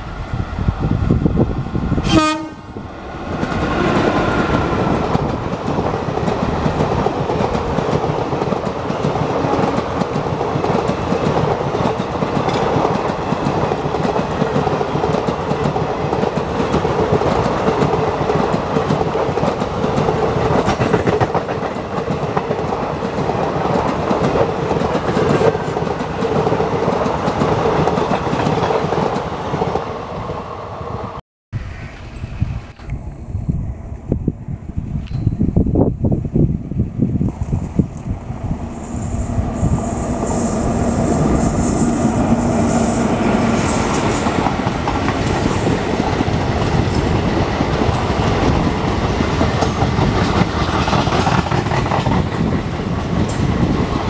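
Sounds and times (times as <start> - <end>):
electric locomotive passing: 0.0 - 54.0
train wheels clickety-clack: 3.4 - 30.4, 34.9 - 54.0.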